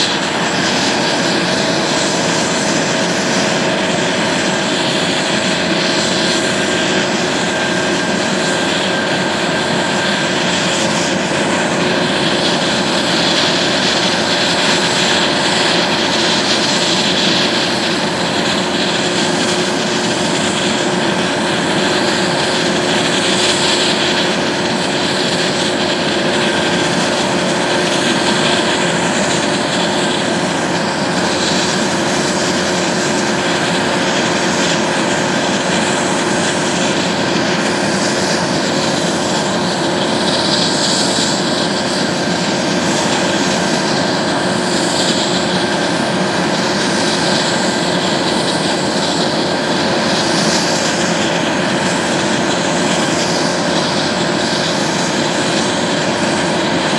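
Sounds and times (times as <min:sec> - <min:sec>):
helicopter rotors turning: 0:00.0 - 0:56.9
helicopter turbines whining: 0:00.0 - 0:56.9.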